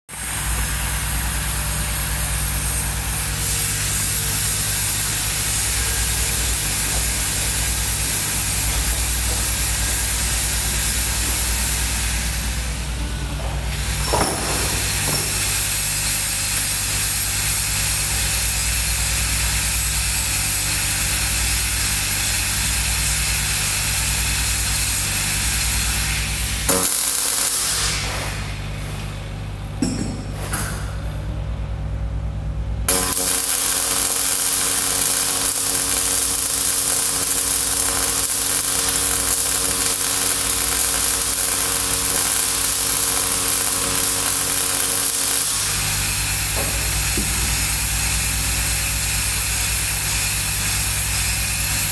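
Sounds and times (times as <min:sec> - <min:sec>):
welding arc hissing and humming: 0:00.1 - 0:51.9.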